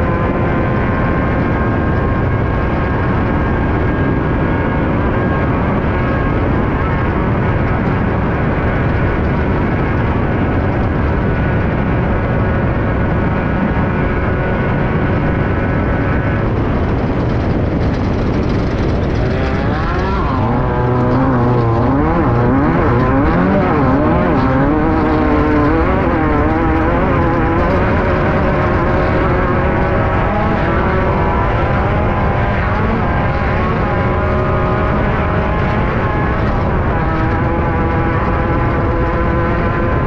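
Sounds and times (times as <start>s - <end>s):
race car engine at high revs: 0.0s - 40.0s.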